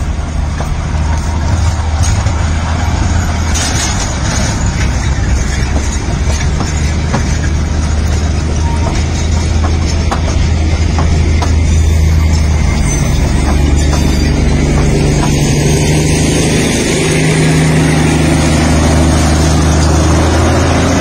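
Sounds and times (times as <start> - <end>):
train engine drone: 0.0 - 21.0
train wheels clicking on rails: 0.0 - 21.0.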